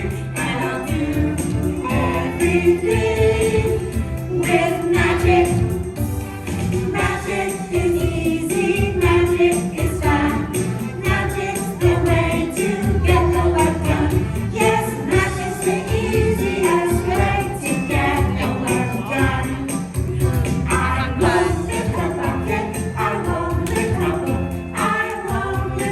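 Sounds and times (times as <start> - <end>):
group of voices singing: 0.0 - 25.9
jingling percussion: 0.0 - 25.9.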